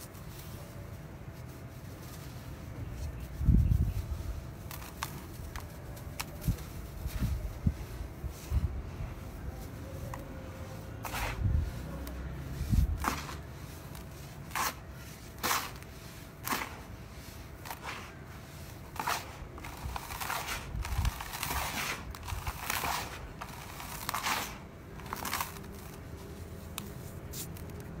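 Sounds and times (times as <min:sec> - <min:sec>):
dry cement mix crunching by hand: 0:00.0 - 0:28.0.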